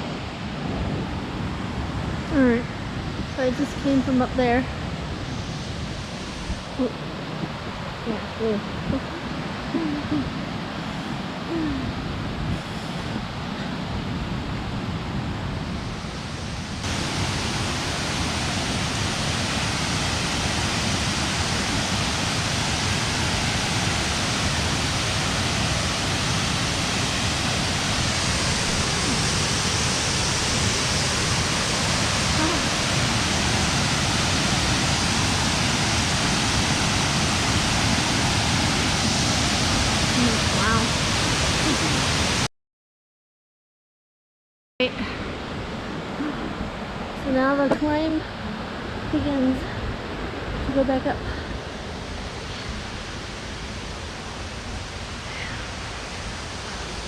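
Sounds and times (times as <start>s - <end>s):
waterfall roaring: 0.0s - 42.5s, 44.9s - 57.0s.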